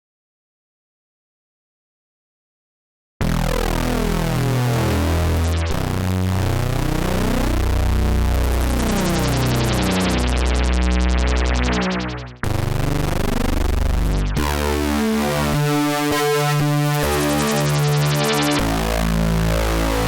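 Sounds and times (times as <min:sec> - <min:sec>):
buzzy synthesizer bass notes: 0:03.2 - 0:20.0.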